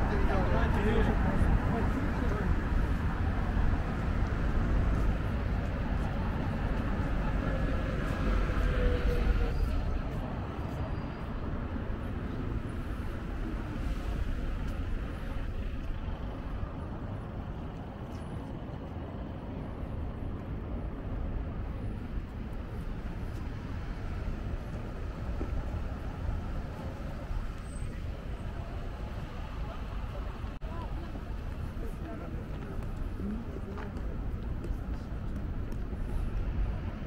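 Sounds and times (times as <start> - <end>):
cars passing: 0.0 - 37.0
low rumble of engines and tyres: 0.0 - 37.0.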